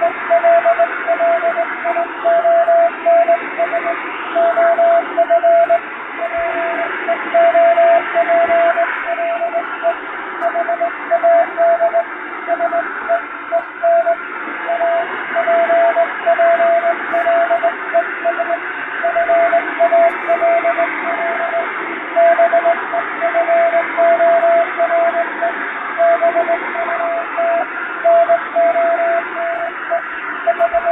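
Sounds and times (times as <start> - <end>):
morse code tone: 0.0 - 30.9
shortwave radio hiss: 0.0 - 30.9.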